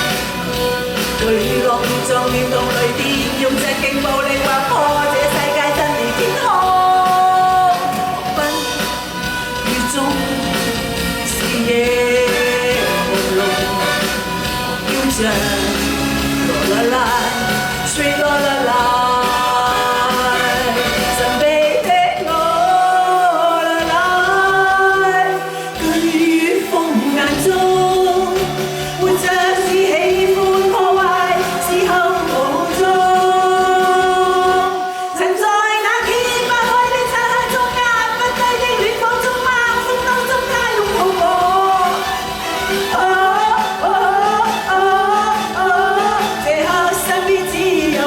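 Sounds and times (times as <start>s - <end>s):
musical accompaniment: 0.0s - 48.0s
person singing pop song: 0.0s - 48.0s.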